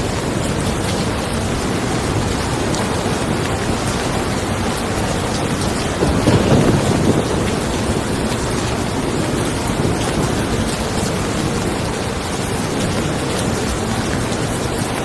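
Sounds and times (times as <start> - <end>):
rain falling on a car: 0.0 - 15.0
thunder rumbling: 0.0 - 15.0.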